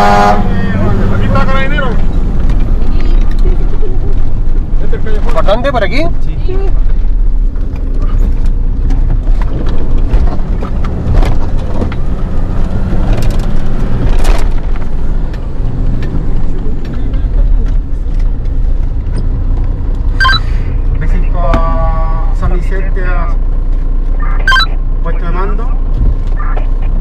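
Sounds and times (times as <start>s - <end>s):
fire truck engine rumbling: 0.0s - 27.0s.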